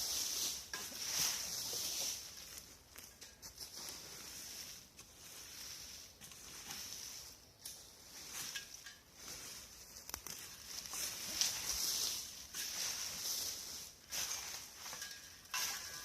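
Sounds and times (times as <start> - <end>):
light footsteps in leaves: 0.0 - 16.0
rustles and crackles in leaf litter: 0.0 - 16.0
steady high hiss: 0.0 - 16.0.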